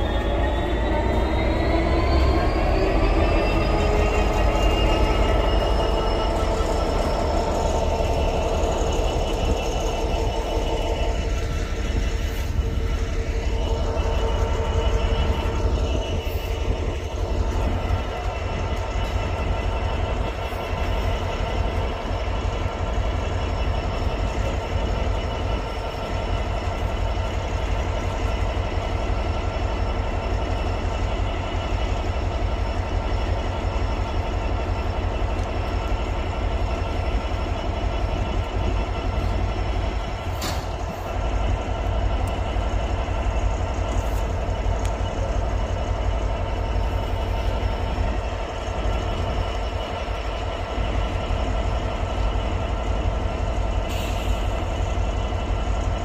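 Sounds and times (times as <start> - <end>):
diesel locomotive engine droning: 0.0 - 56.0.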